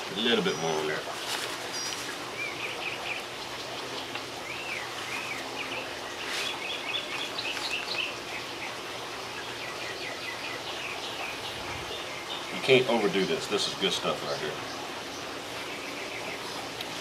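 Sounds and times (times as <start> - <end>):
outdoor background noise: 0.0 - 17.0
songbirds chirping: 0.0 - 17.0.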